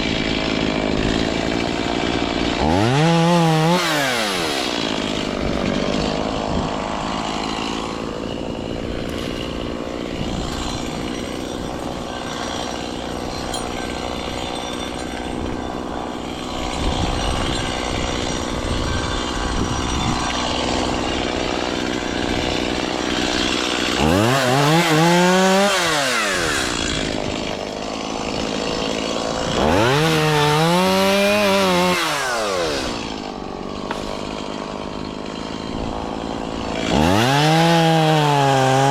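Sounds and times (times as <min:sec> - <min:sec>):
small engine running and revving: 0:00.0 - 0:38.9.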